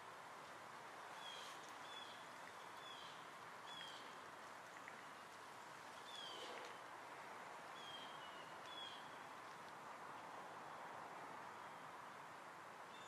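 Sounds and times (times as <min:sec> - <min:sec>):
steady soft hiss: 0:00.0 - 0:13.0.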